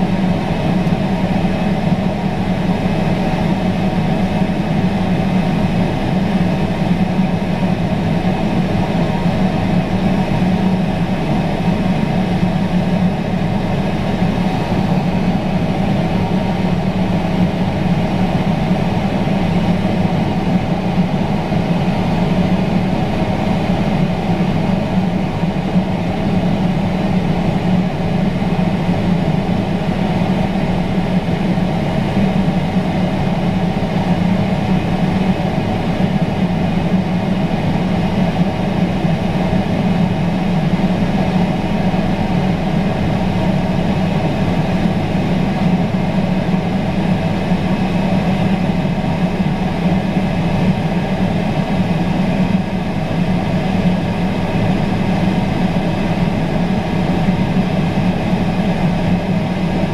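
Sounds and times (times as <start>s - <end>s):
diesel engine drone: 0.0s - 59.9s
machinery hum: 0.0s - 59.9s.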